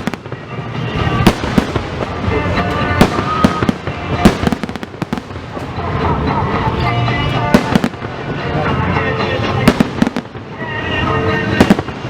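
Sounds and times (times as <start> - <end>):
fireworks bangs: 0.0 - 6.3, 7.0 - 12.0
fireworks crackling: 0.0 - 12.0.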